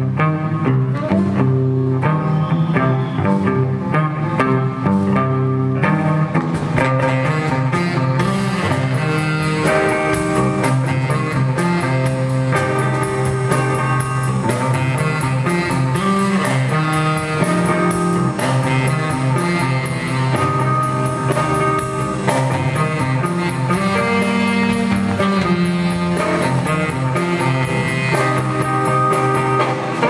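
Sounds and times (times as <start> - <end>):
electric bass: 0.0 - 30.0
electric guitar: 0.0 - 30.0
drum kit with cymbal beats: 5.9 - 30.0.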